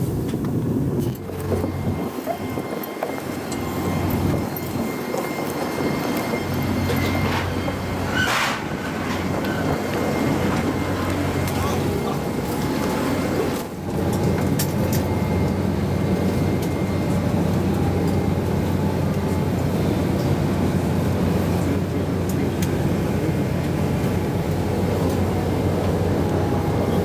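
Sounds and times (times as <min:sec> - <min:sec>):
aircraft cabin rumble: 0:00.0 - 0:27.0
jet engines humming: 0:00.0 - 0:27.0.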